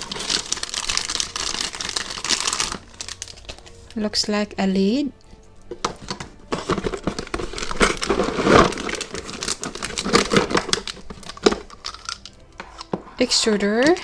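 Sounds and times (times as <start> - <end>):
toy packaging crinkling: 0.0 - 4.0, 5.4 - 14.0.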